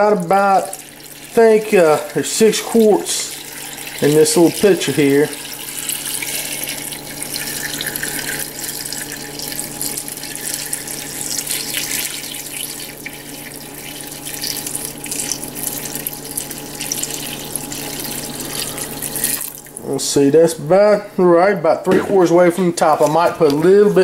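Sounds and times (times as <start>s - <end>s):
water pouring into pot: 0.2s - 19.8s.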